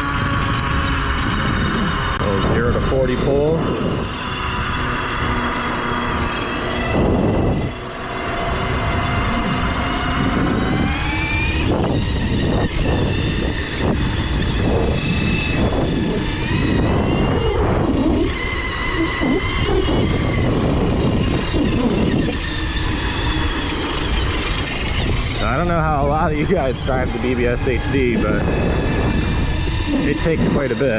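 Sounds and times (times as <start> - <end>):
electric bike motor whining: 0.0 - 30.9
wind on microphone: 0.0 - 30.9.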